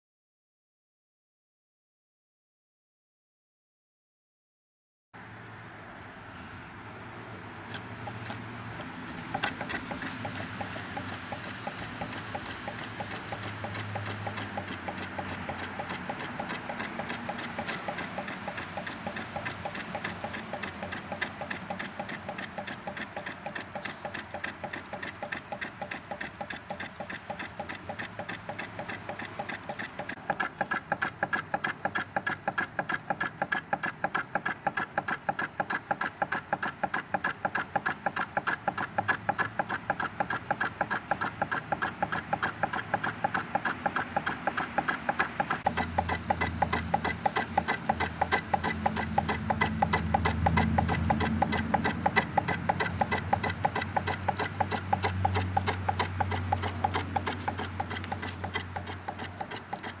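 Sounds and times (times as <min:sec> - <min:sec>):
engine mechanism clacking: 0:07.5 - 1:00.0.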